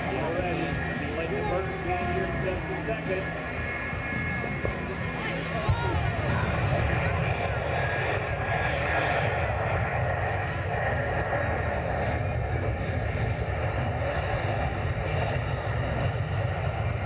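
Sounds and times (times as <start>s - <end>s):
jet engine roaring: 0.0s - 17.0s.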